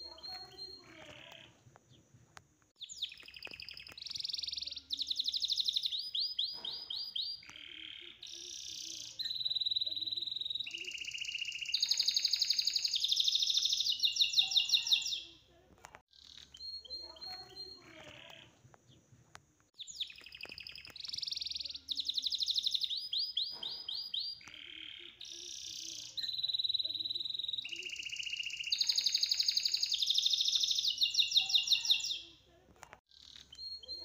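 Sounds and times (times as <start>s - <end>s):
songbird singing: 0.0s - 15.5s, 16.1s - 32.5s, 33.1s - 34.0s.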